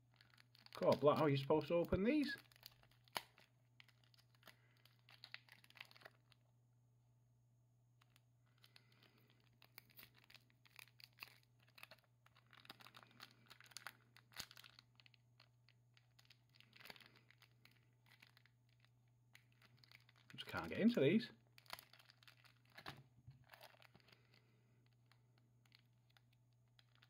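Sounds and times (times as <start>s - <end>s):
wrapper crinkling: 0.0s - 6.4s, 8.0s - 27.0s
low steady hum: 0.0s - 27.0s.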